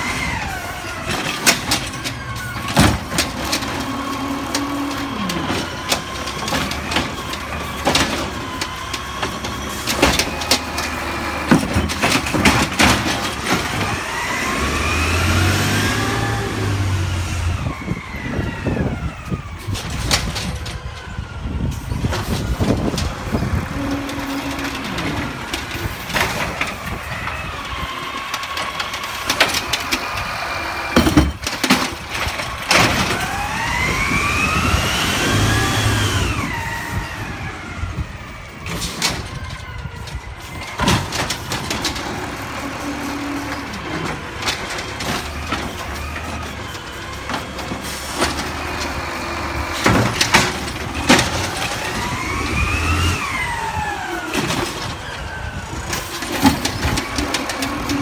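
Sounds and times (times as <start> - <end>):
clanks from arm and carts: 0.0 - 58.0
garbage truck diesel engine revving: 0.0 - 58.0.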